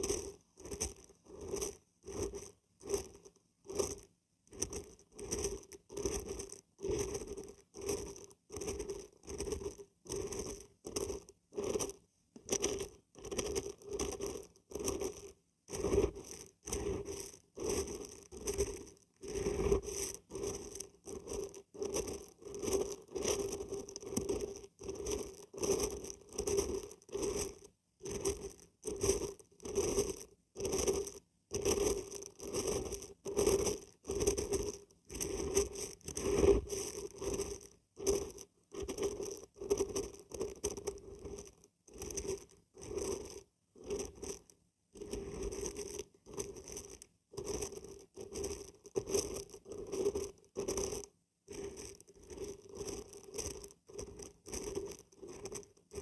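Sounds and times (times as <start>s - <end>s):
dried beans rattling: 0.0s - 56.0s.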